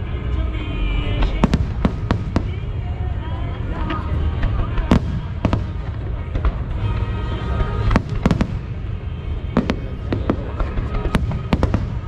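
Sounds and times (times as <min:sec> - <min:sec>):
music playing: 0:00.0 - 0:12.0
steady rumble: 0:00.0 - 0:12.0
fireworks bangs: 0:01.2 - 0:12.0.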